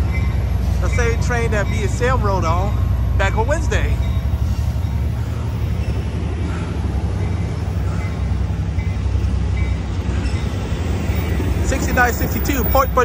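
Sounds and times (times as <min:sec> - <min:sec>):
train cars rolling on rails: 0:00.0 - 0:13.0.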